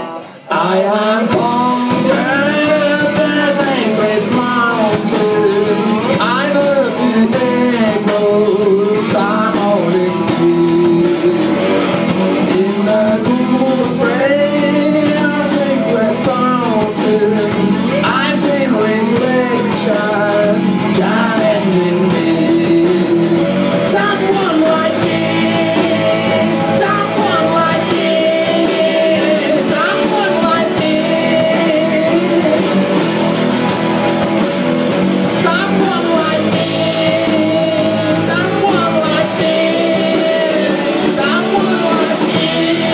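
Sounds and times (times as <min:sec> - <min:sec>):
bass guitar: 0:00.0 - 0:42.9
electric guitars: 0:00.0 - 0:42.9
drum kit with cymbals: 0:01.2 - 0:42.9.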